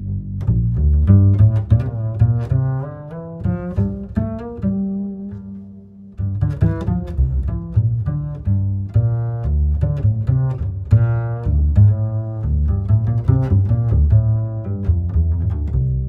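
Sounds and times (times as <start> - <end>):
plucked and bowed strings music: 0.0 - 16.0
strong bass line: 0.0 - 16.0.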